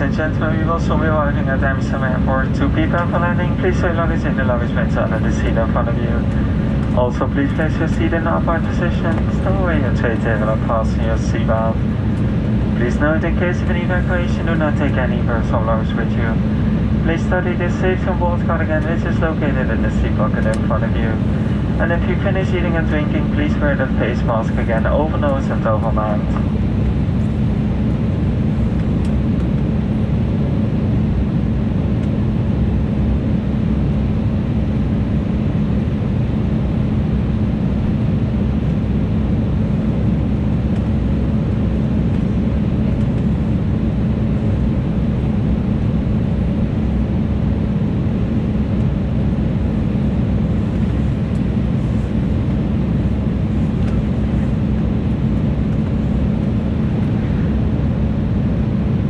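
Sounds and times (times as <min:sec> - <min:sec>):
constant low hum: 0:00.0 - 0:59.0
jet cabin airflow and engines: 0:00.0 - 0:59.0.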